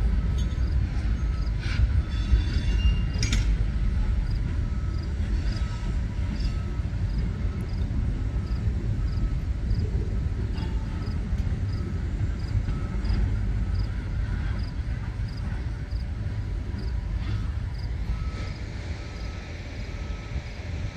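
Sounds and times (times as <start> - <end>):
freight train rumbling on rails: 0.0 - 20.9.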